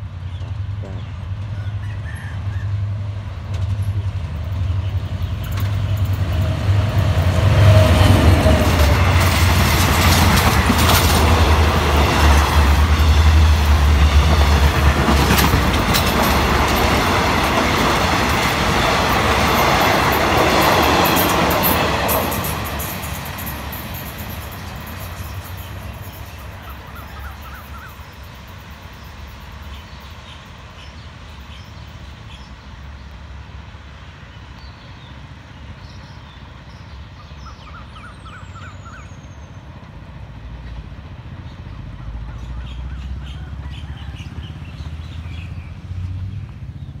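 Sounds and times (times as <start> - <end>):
passenger train rumbling: 0.0 - 47.0.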